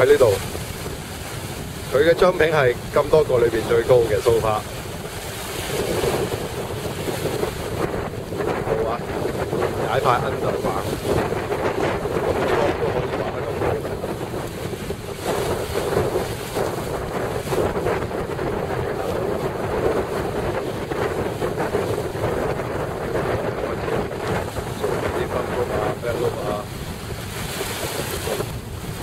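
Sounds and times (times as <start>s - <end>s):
strong wind buffeting microphone: 0.0s - 29.0s
waves lapping: 0.0s - 29.0s.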